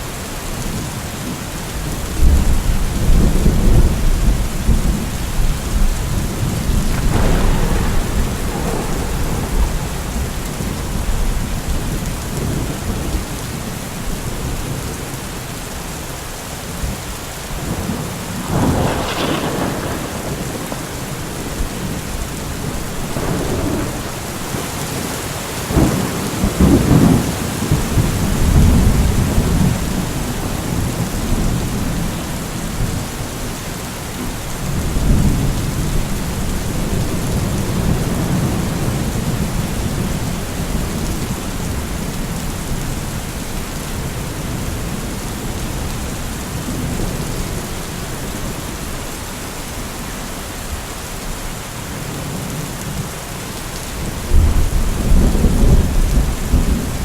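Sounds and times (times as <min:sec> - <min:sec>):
rain falling: 0:00.0 - 0:57.0
rolling thunder: 0:01.8 - 0:14.9, 0:17.6 - 0:33.5, 0:34.3 - 0:48.8, 0:54.0 - 0:57.0.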